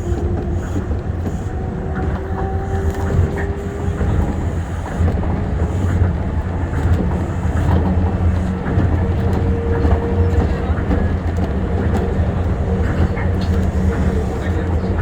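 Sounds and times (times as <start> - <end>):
monorail train rumbling: 0.0 - 15.0.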